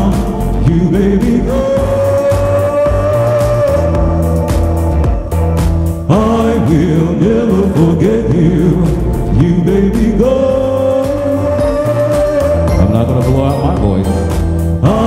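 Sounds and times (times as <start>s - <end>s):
person singing: 0.0s - 5.2s, 6.1s - 15.0s
steady beat and bass: 0.0s - 15.0s.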